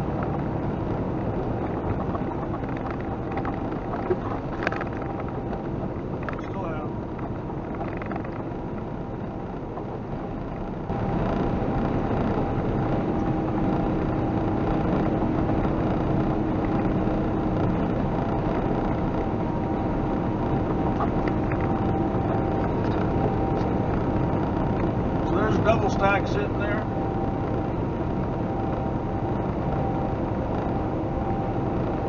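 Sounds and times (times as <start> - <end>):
steady hum: 0.0 - 32.0
truck engine and road noise: 0.0 - 32.0.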